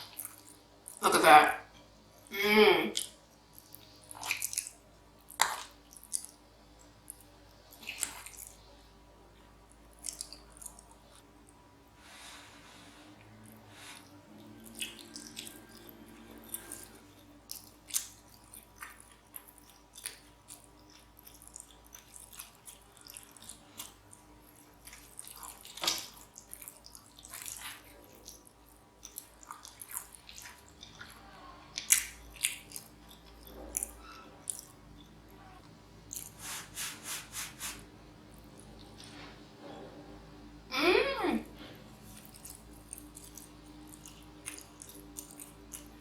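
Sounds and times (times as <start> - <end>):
wet chewing and mouth clicks: 0.0 - 1.0, 3.0 - 8.9, 9.6 - 11.6, 13.2 - 36.6, 38.3 - 39.3, 41.9 - 46.0.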